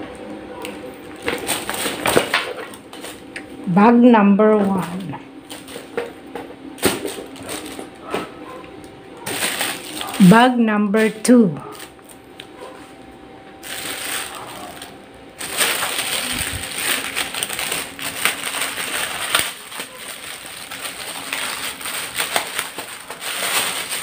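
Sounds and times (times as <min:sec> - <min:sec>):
plastic bag crinkling: 0:00.7 - 0:03.6, 0:04.6 - 0:06.2, 0:06.8 - 0:08.1, 0:09.2 - 0:24.0.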